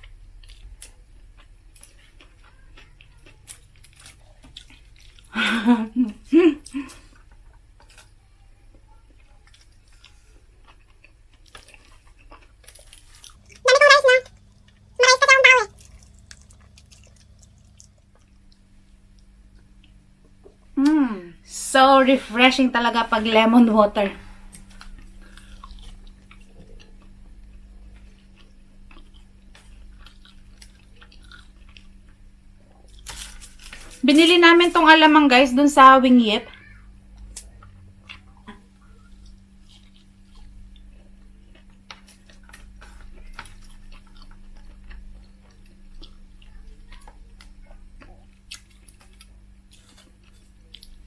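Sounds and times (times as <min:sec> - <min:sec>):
chewing and mouth sounds: 0:00.0 - 0:05.4, 0:06.6 - 0:20.8, 0:24.4 - 0:34.0, 0:36.5 - 0:51.0
steady low hum: 0:00.0 - 0:51.0.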